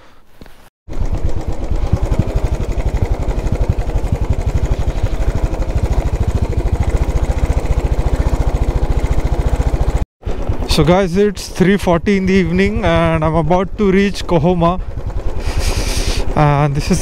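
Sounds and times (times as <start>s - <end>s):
motorcycle engine running: 0.9s - 17.0s.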